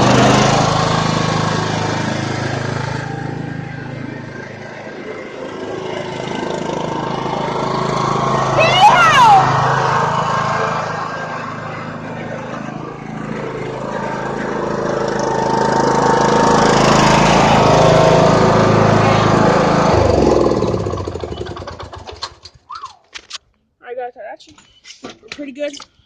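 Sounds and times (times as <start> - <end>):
riding lawn mower engine passing: 0.0 - 22.7.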